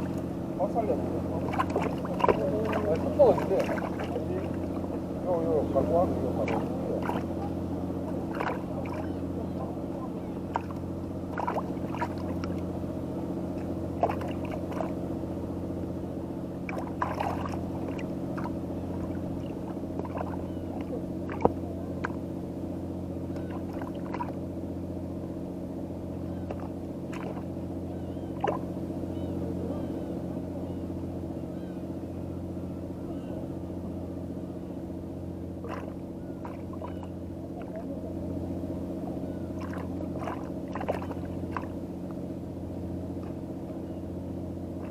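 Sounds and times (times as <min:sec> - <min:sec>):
low engine hum: 0:00.0 - 0:44.9.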